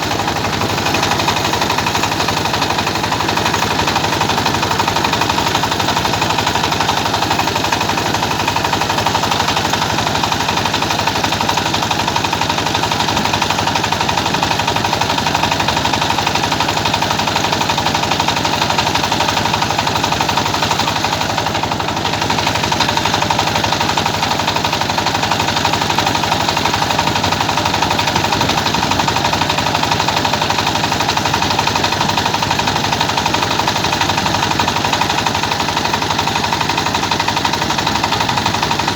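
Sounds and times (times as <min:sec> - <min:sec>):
rice milling machine clattering: 0:00.0 - 0:38.9.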